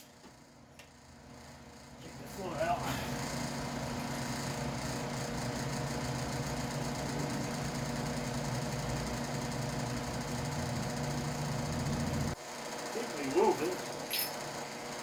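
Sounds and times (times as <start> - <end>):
motor humming and rattling: 0.0 - 15.0.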